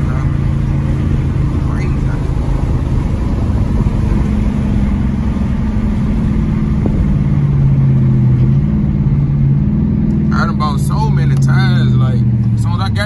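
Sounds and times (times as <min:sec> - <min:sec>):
car exhaust drone: 0:00.0 - 0:13.0.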